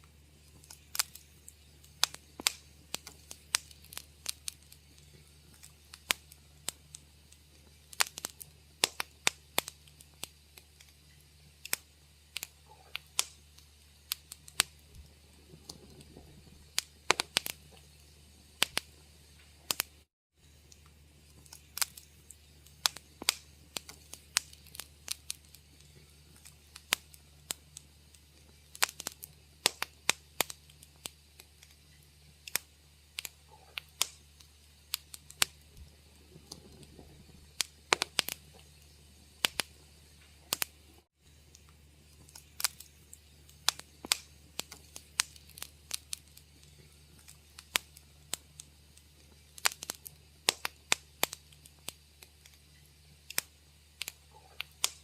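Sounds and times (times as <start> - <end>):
faint low hum: 0.0 - 55.0
wood fire crackling and popping: 0.0 - 55.0.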